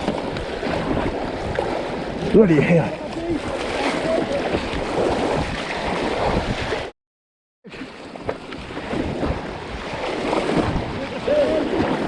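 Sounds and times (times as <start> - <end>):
water splashes: 0.0 - 6.9, 7.7 - 12.0
wind buffeting microphone: 0.0 - 6.9, 8.2 - 12.0.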